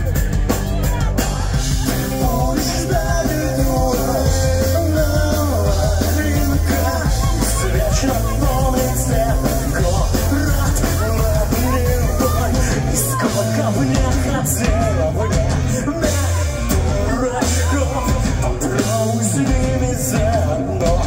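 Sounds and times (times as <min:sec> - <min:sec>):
pop-punk band playing: 0:00.0 - 0:21.0.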